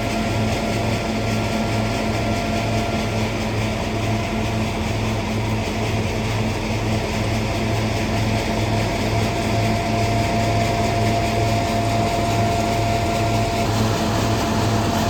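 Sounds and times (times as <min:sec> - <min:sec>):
thresher machine droning: 0:00.0 - 0:15.0.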